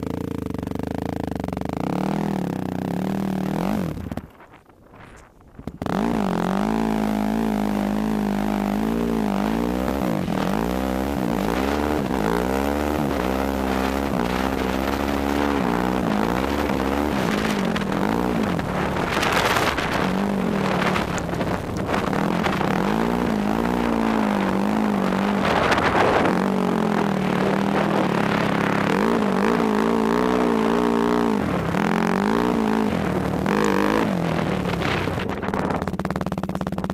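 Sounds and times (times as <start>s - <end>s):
quad bike engine revving: 0.0s - 4.4s, 5.6s - 36.9s.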